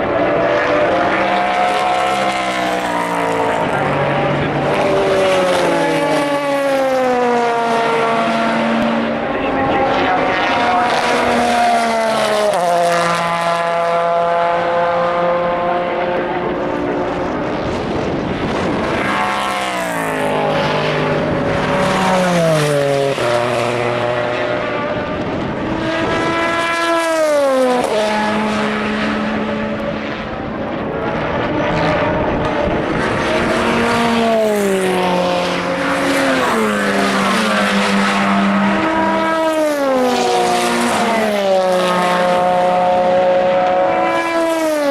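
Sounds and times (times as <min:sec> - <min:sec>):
racing cars passing: 0:00.0 - 0:44.9.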